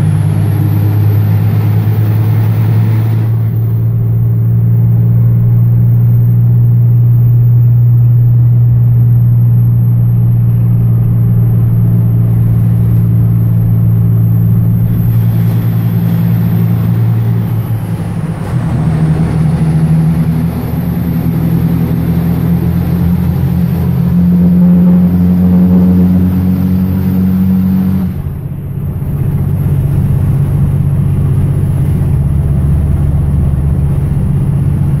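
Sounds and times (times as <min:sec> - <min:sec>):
diesel engine drone in cab: 0:00.0 - 0:35.0.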